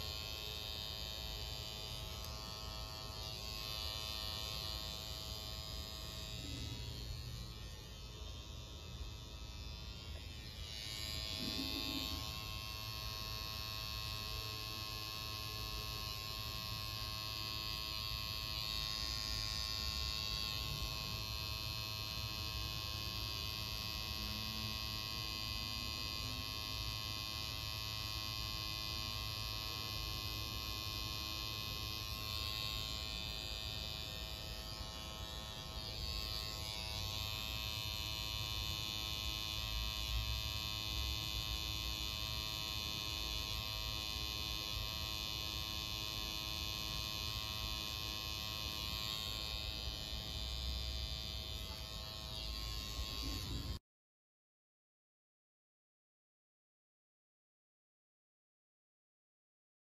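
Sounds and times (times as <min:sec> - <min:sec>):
tattoo machine buzzing: 0:00.0 - 0:53.8.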